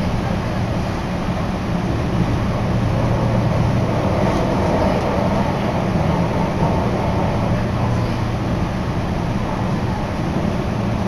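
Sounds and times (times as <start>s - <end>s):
train interior rumble and hum: 0.0s - 11.0s.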